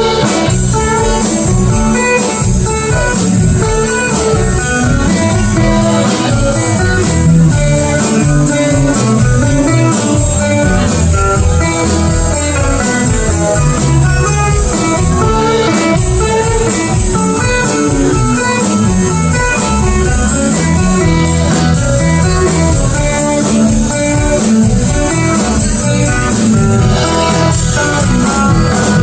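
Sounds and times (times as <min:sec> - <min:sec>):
bass: 0:00.0 - 0:29.0
guitar line: 0:00.0 - 0:29.0.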